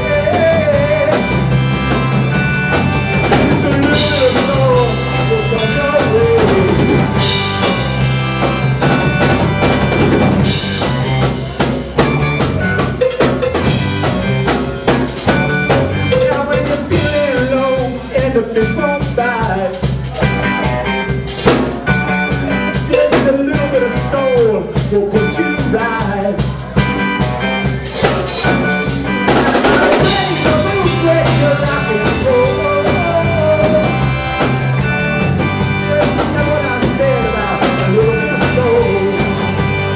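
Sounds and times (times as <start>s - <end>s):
drums beating: 0.0s - 39.9s
rock band playing: 0.0s - 39.9s
wavering melodic lead line: 0.0s - 39.9s.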